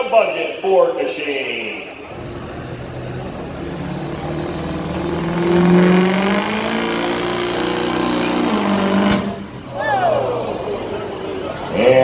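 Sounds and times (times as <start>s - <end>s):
truck engine running hard: 2.0s - 11.8s.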